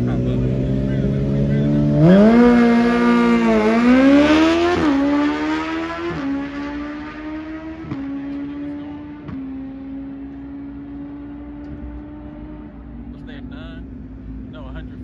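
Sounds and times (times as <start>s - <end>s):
motorcycle engine revving with upshifts: 0.0s - 15.0s.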